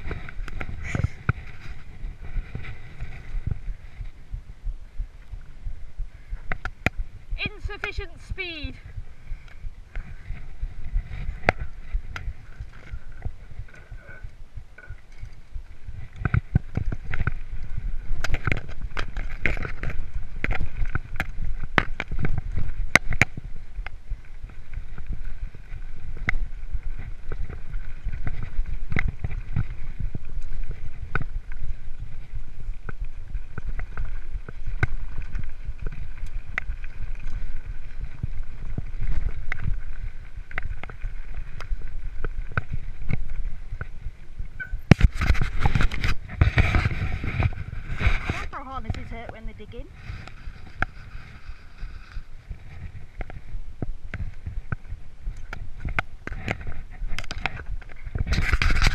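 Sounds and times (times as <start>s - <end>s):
wind buffeting microphone: 0.0s - 58.9s.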